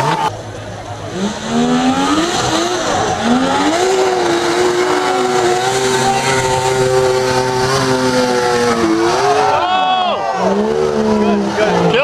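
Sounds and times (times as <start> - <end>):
snowmobile engine accelerating: 0.0 - 12.0.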